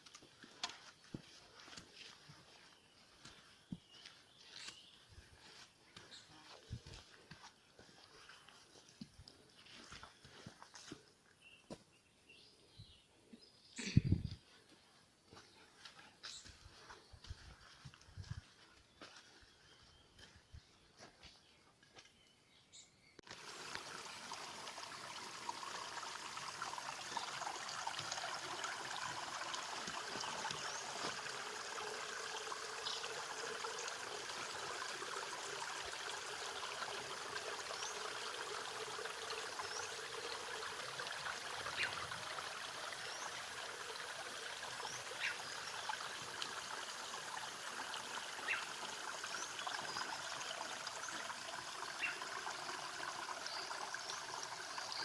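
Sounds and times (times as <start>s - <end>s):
small stream trickling: 0.0s - 22.3s, 23.2s - 55.0s.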